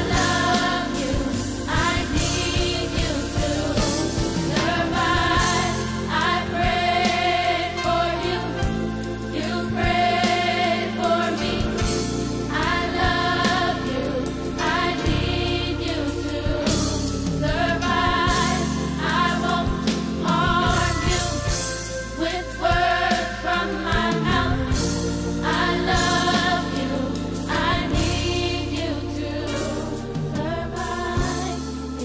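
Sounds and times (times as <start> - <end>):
choir singing gospel music: 0.0 - 32.0
steady bass line: 0.0 - 32.0.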